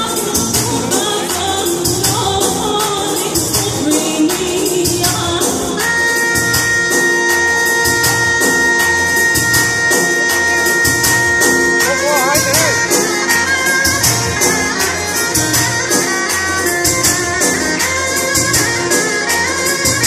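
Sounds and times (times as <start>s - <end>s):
folk dance music on keyboard: 0.0s - 20.0s.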